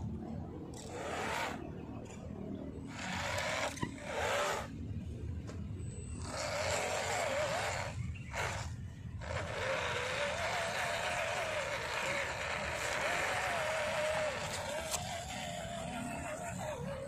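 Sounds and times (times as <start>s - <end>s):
electric motor whining: 0.7s - 17.0s.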